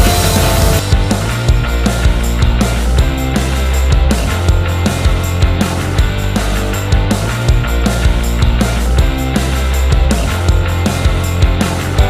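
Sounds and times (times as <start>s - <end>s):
drum beat: 0.0s - 12.0s
guitar: 0.0s - 12.0s.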